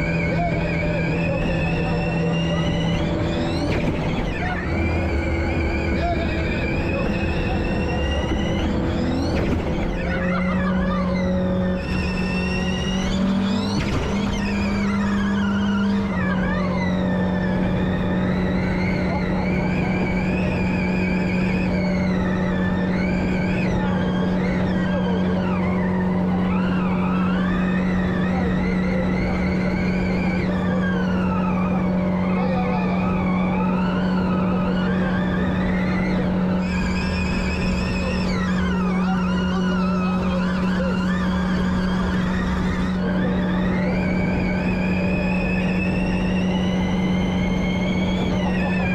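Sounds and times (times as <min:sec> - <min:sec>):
electric motors whining: 0:00.0 - 0:48.9
petrol engine droning: 0:00.0 - 0:48.9
tyre and road noise: 0:00.0 - 0:48.9.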